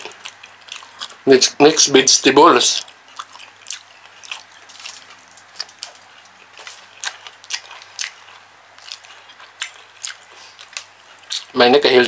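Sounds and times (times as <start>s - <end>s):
man chewing food: 0.0s - 1.3s, 2.5s - 11.9s.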